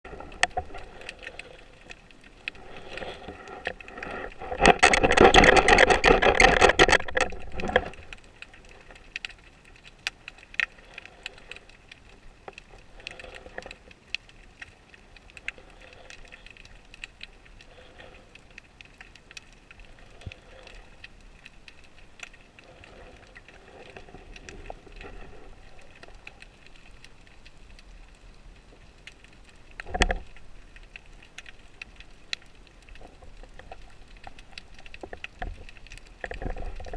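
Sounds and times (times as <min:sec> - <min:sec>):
rushing water: 0:00.0 - 0:36.9
underwater clicks and crackle: 0:00.0 - 0:36.9.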